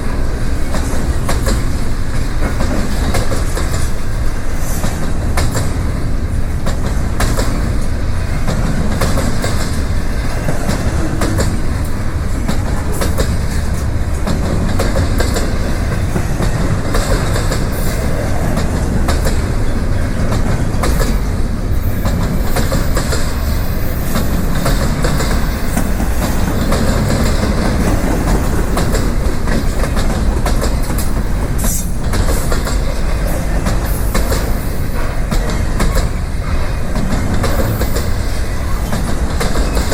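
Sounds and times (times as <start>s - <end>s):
train wheels rumbling on rail: 0.0s - 39.9s
wheels knocking on rail joints: 0.5s - 39.9s.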